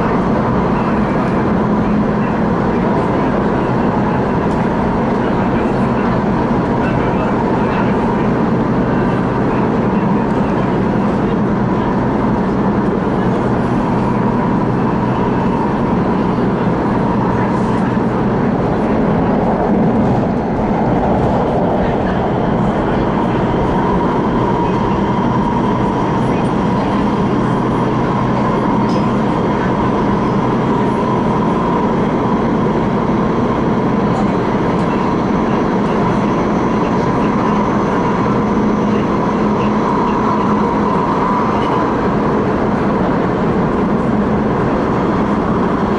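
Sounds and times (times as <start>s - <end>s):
steady high whine: 0.0s - 45.9s
train motor hum: 0.0s - 45.9s
train wheels rumbling on rails: 0.0s - 45.9s.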